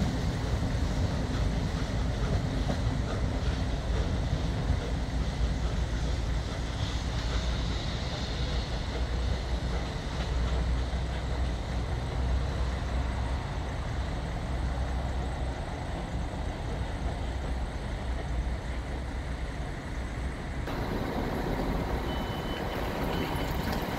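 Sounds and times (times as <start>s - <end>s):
steam locomotive low rumble: 0.0s - 23.9s.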